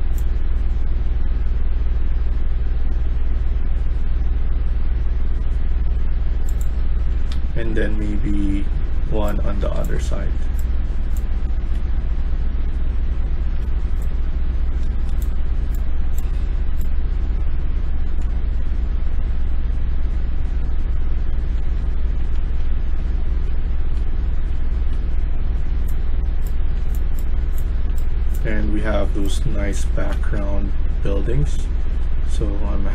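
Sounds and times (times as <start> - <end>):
low hum and hiss: 0.0 - 32.9.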